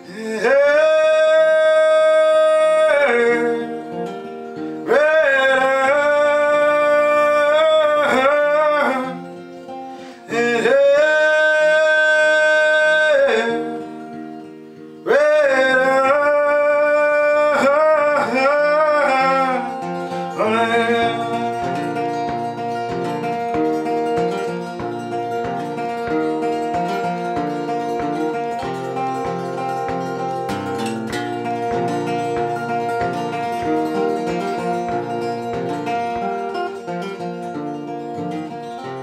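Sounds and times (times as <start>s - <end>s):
man's wordless singing: 0.0s - 14.4s, 15.0s - 37.3s
acoustic guitar: 0.0s - 39.0s.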